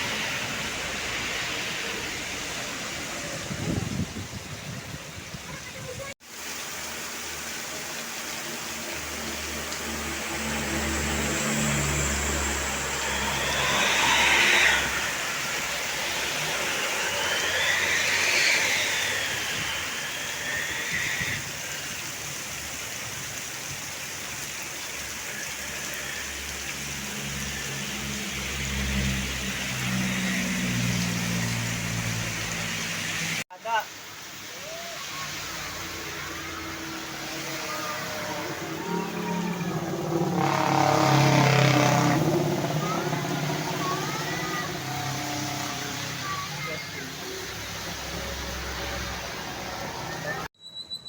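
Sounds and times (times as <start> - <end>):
road traffic passing: 0.0 - 50.6.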